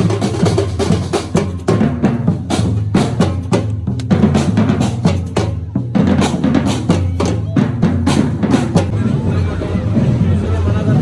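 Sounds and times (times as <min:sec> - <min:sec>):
music with driving drum beat: 0:00.0 - 0:10.3.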